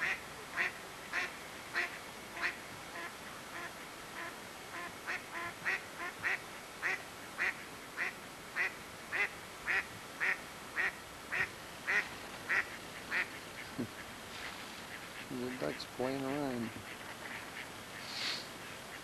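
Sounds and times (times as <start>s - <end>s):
duck quacking: 0.0s - 14.1s, 14.9s - 19.0s.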